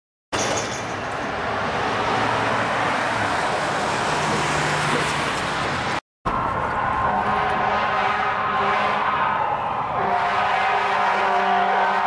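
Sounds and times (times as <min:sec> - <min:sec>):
road noise: 0:00.3 - 0:12.0
emergency vehicle engine: 0:01.2 - 0:12.0.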